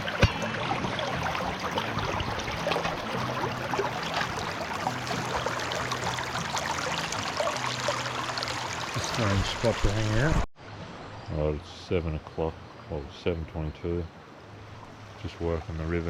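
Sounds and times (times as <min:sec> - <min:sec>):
river water splashing: 0:00.0 - 0:11.3, 0:14.1 - 0:16.0.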